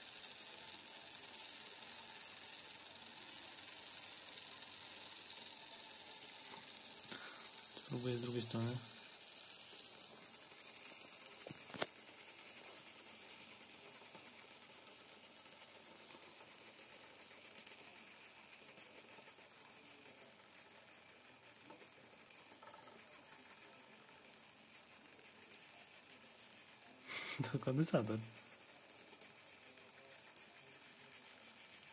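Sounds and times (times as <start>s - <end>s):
servo motor whine with gear ticking: 0.0s - 26.0s, 26.7s - 31.9s.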